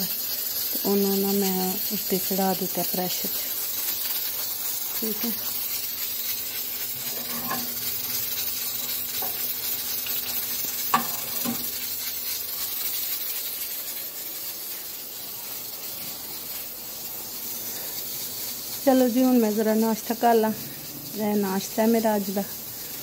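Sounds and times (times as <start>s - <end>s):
food hissing on a stove: 0.0s - 23.0s.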